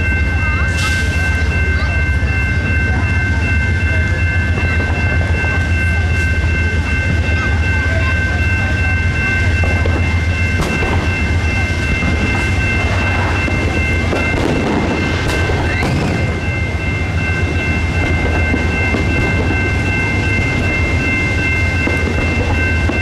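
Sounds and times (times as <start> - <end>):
high-pitched ringing tone: 0.0 - 23.0
train cars rumbling past: 0.0 - 23.0.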